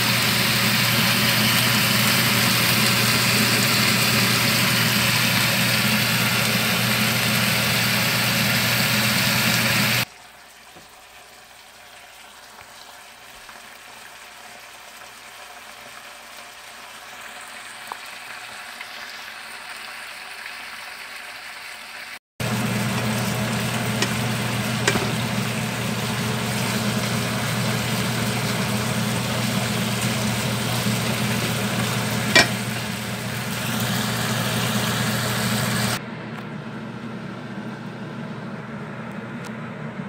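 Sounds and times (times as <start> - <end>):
chicken sizzling in a wok: 0.0 - 36.0.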